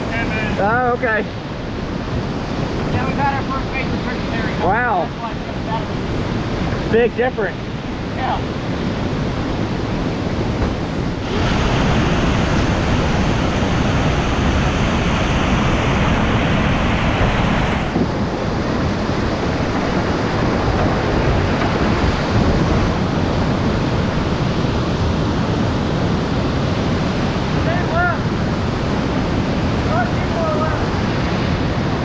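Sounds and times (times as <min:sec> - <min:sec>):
whitewater rapids roaring: 0:00.0 - 0:32.0.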